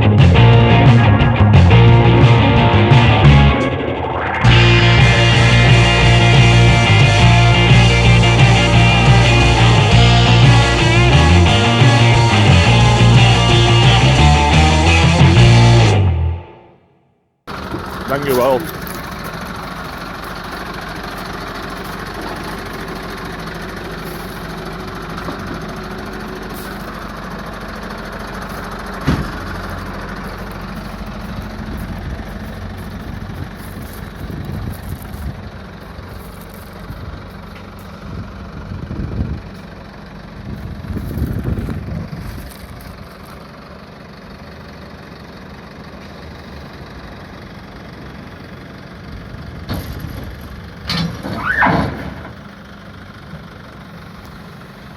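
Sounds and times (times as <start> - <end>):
vehicle engine idling: 0.0 - 16.5, 17.5 - 54.9.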